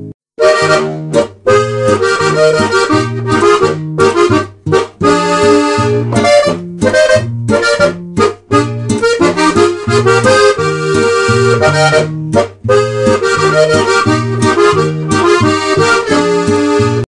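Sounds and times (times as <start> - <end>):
accordion music: 0.0 - 17.0.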